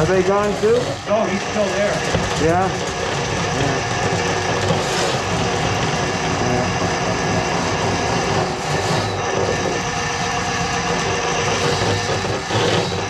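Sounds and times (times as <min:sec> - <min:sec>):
drain-cleaning machine motor running: 0:00.0 - 0:13.0.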